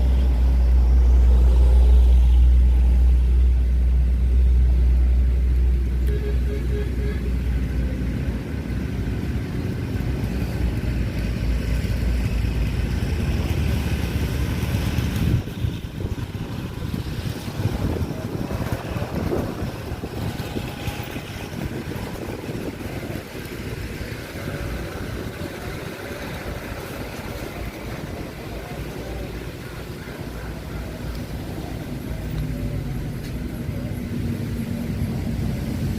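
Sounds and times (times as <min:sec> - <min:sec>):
low rumble with noise: 0:00.0 - 0:35.9.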